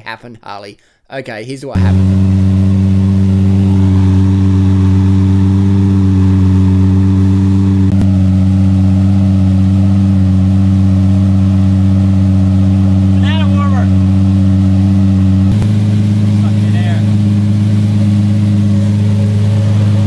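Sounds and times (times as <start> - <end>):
car engine running steadily: 1.8 - 20.0.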